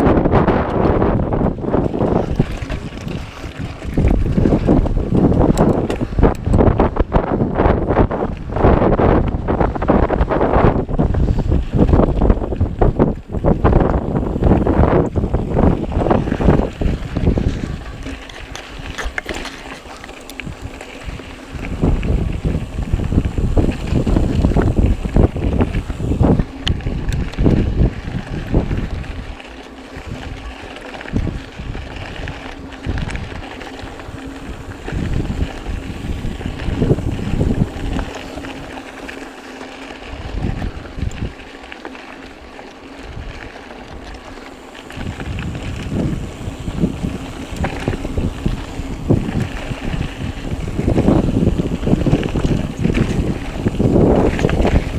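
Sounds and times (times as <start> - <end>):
bike clattering over rough trail: 0.0 - 54.9
wind buffeting microphone: 0.0 - 54.9.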